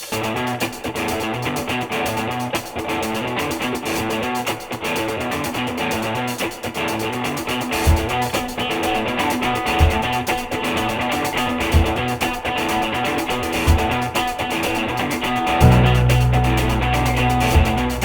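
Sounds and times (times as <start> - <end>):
rock music with electric guitar: 0.0 - 18.0.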